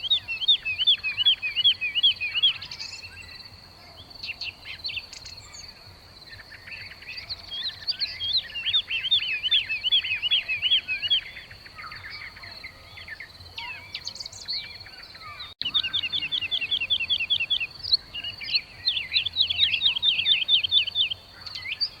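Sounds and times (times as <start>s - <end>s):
birds chattering: 0.0s - 22.0s.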